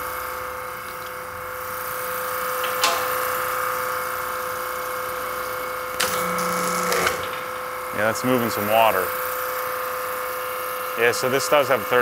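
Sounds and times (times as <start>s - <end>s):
pressure washer humming: 0.0s - 12.0s.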